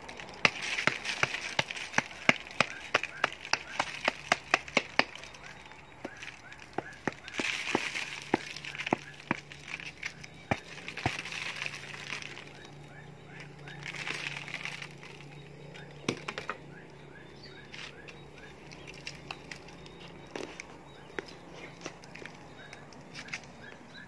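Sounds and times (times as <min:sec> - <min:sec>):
scratchy rustling of leaves: 0:00.0 - 0:16.0, 0:17.6 - 0:24.0.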